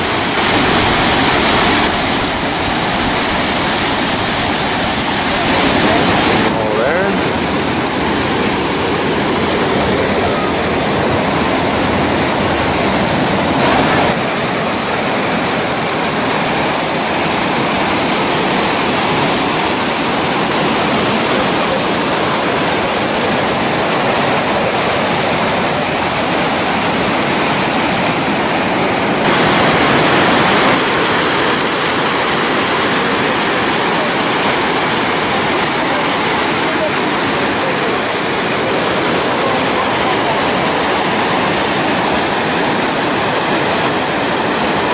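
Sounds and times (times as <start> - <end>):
water rushing over rocks: 0.0 - 44.9.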